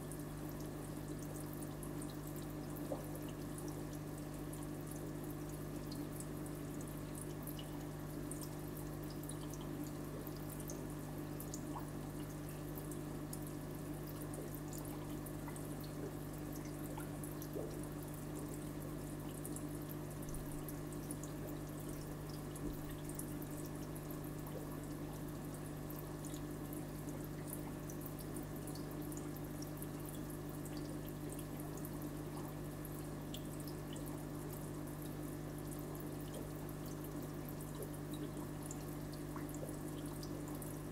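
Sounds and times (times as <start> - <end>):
filter low hum: 0.0 - 40.9
small ticks and drips: 0.0 - 40.9
water trickling into tank: 0.0 - 40.9.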